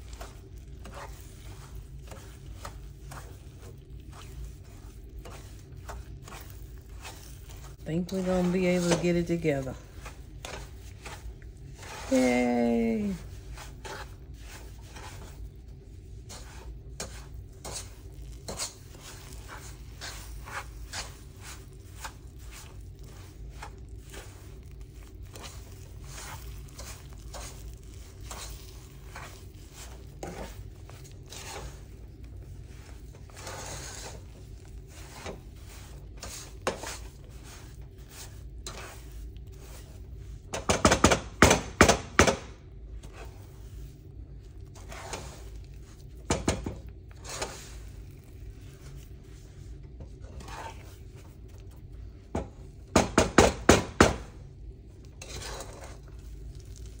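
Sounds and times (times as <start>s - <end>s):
wooden spoon scraping saucepan: 0.0s - 40.7s, 43.0s - 52.8s, 55.0s - 57.0s.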